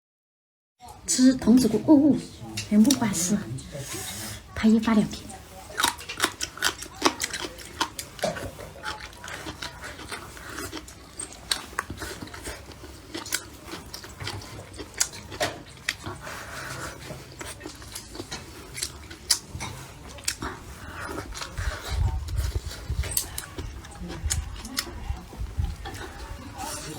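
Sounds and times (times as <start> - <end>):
person chewing crunchily: 4.9 - 26.9.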